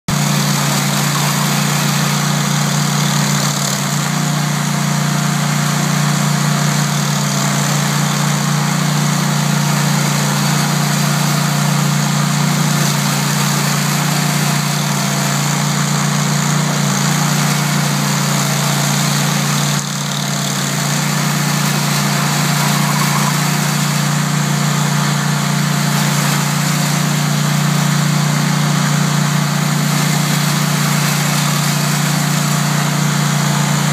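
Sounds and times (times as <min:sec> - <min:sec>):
stump grinder running: 0:00.0 - 0:33.9.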